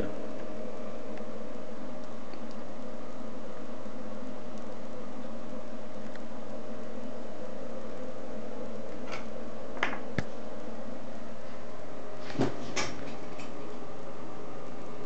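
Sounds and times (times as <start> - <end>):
machine humming steadily: 0.0 - 15.0.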